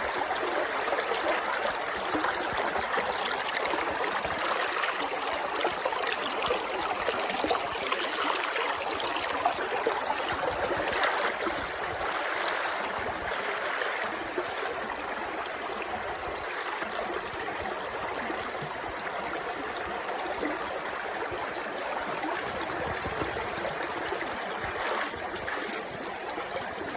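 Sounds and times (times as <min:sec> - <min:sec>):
mountain stream babbling: 0:00.0 - 0:26.9.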